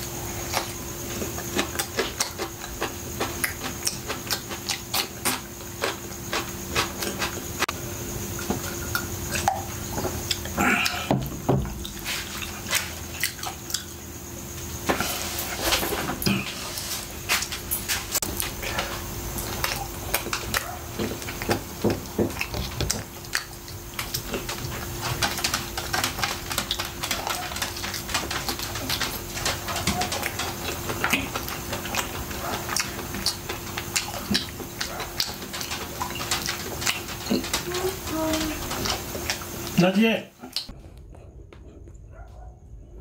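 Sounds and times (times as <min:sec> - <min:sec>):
person chewing and lip-smacking: 0:00.0 - 0:07.7, 0:08.3 - 0:11.1, 0:11.8 - 0:14.0, 0:17.3 - 0:29.2, 0:29.8 - 0:39.8, 0:40.4 - 0:42.0.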